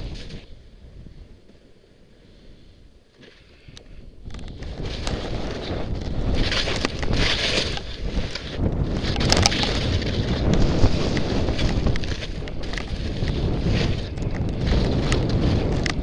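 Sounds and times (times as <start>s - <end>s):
wind buffeting microphone: 0.0s - 1.4s, 3.8s - 16.0s.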